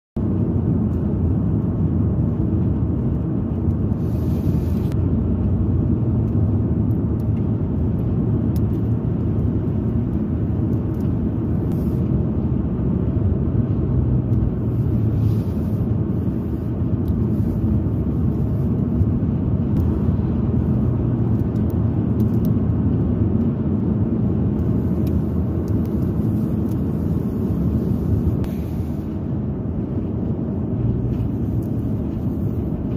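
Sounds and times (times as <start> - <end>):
car cabin road rumble: 0.2 - 32.9.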